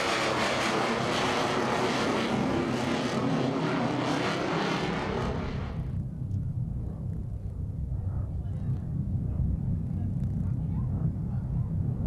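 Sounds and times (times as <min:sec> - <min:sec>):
jet engine roar flying past: 0:00.0 - 0:12.0.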